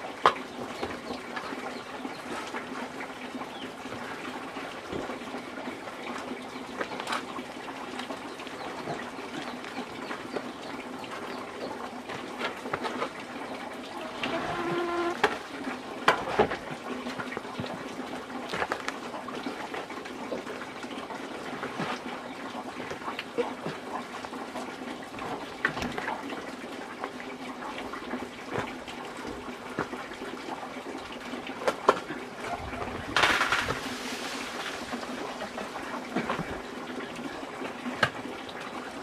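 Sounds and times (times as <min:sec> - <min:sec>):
rush of water: 0:00.0 - 0:39.0
water sloshing and pouring: 0:00.0 - 0:39.0.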